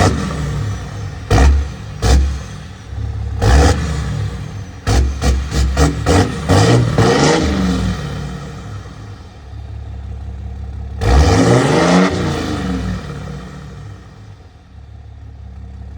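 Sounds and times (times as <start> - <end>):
diesel engine revving: 0.0 - 15.9.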